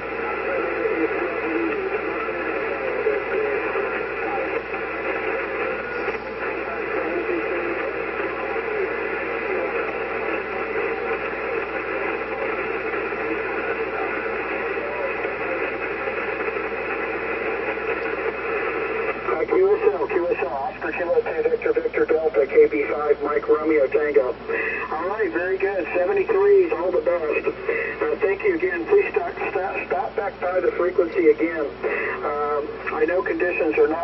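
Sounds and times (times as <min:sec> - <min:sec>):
radio static and hiss: 0:00.0 - 0:34.0
weak distant radio voice: 0:00.0 - 0:34.0.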